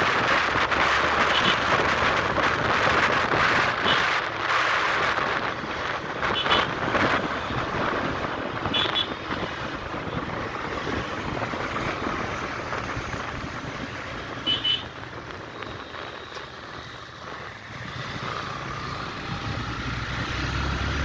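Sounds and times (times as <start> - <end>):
motorcycle riding: 0.0 - 21.0
wind buffeting microphone: 0.0 - 21.0.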